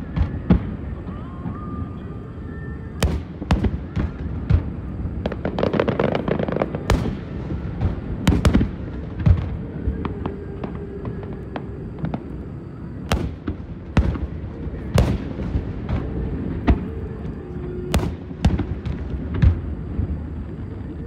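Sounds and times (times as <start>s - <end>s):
crackling firework bangs: 0.0s - 1.8s, 3.0s - 12.4s, 13.0s - 21.0s.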